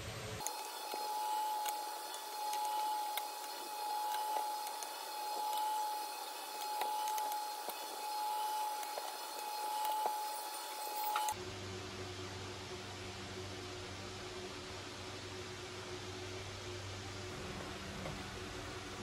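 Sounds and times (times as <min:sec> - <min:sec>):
electric appliance humming: 0:00.0 - 0:19.0.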